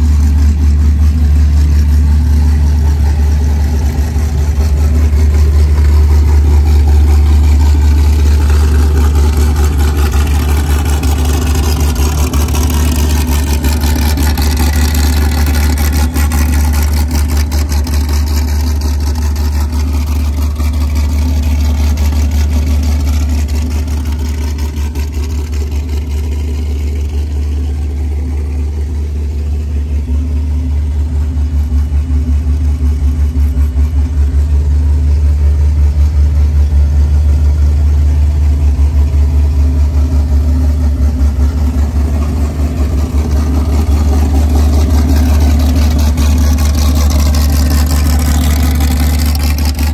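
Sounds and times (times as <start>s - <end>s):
engine idling: 0.0s - 49.9s.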